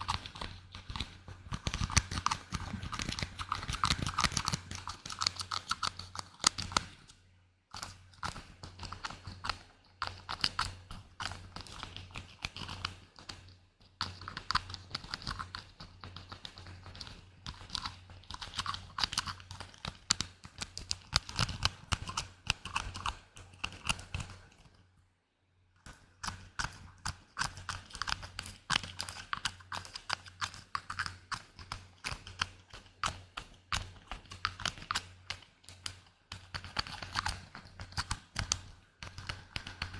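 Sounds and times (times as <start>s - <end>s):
light tapping and clicks: 0.0s - 24.8s, 25.8s - 39.9s.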